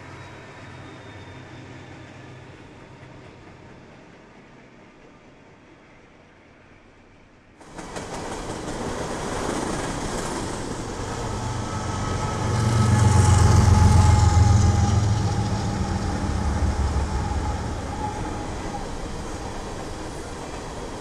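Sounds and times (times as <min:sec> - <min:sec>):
train wheels on rail: 0:00.0 - 0:06.8, 0:07.4 - 0:21.0
diesel locomotive engines rumbling: 0:00.0 - 0:21.0.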